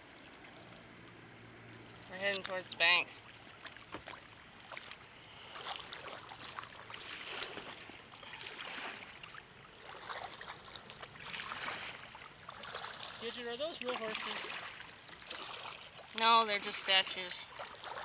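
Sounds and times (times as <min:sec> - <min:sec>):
flowing river: 0:00.0 - 0:18.0
kayak paddle swishing and splashing: 0:02.2 - 0:18.0.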